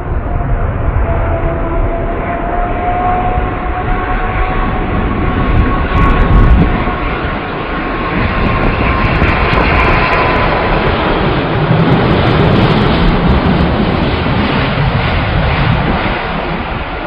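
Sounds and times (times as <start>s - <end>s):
jet engines roaring: 0.0s - 17.0s
whining engine tones: 0.0s - 17.0s.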